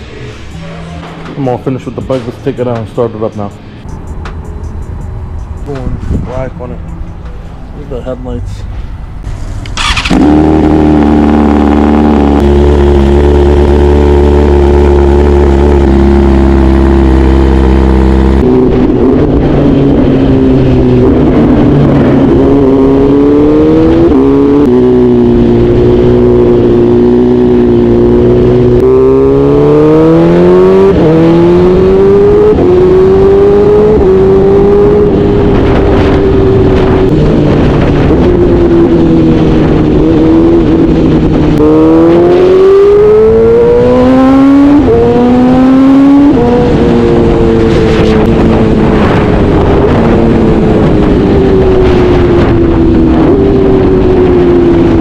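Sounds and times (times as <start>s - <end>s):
motorcycle engine revving: 9.6s - 55.0s.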